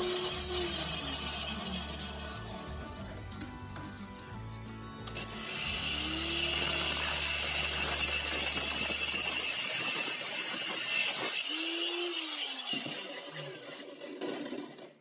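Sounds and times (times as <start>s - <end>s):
woodworking power tool running: 0.0s - 3.1s, 5.1s - 14.8s.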